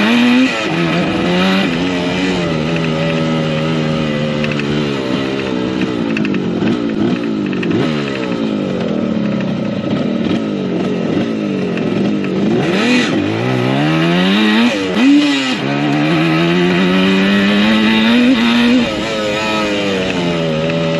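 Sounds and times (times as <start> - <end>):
two-stroke motorcycle engine revving: 0.0 - 20.9.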